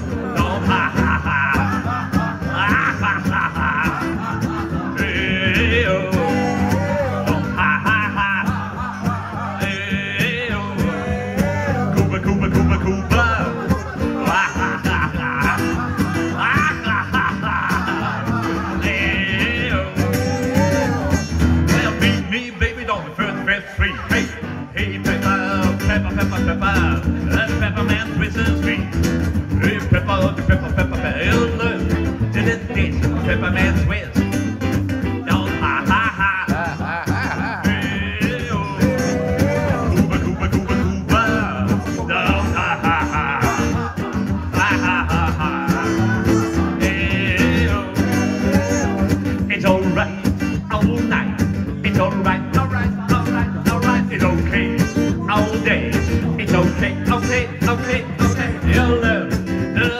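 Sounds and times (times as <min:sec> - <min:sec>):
man singing: 0:00.0 - 0:59.9
strummed acoustic guitar: 0:00.0 - 0:59.9.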